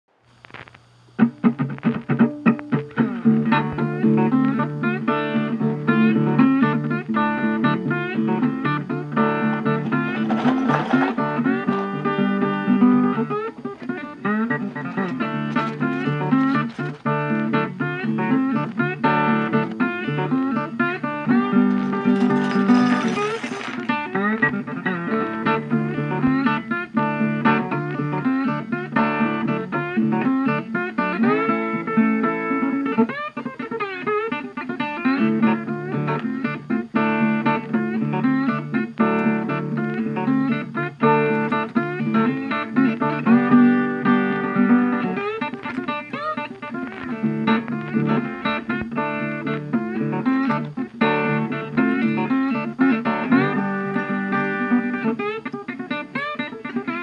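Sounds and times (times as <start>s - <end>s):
plucked guitar music: 1.1s - 57.0s.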